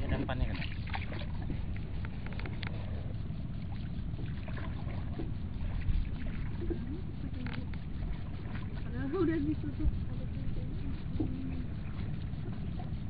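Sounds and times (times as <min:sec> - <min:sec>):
low rumble: 0:00.0 - 0:13.0
water sloshing against canoe: 0:00.0 - 0:13.0.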